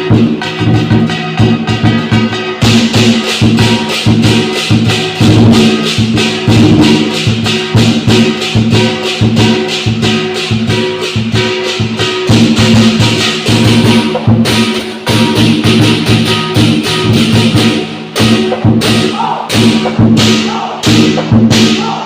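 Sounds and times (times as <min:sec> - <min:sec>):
cymbals clashing: 0:00.0 - 0:22.0
drum beating: 0:00.0 - 0:22.0.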